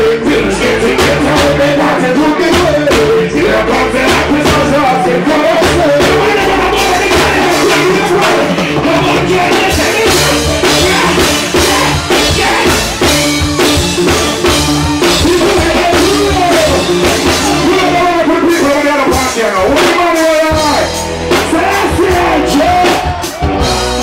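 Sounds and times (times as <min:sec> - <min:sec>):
person singing: 0:00.0 - 0:13.4, 0:14.1 - 0:24.0
bass line: 0:00.0 - 0:24.0
reggae drum beat: 0:00.0 - 0:24.0.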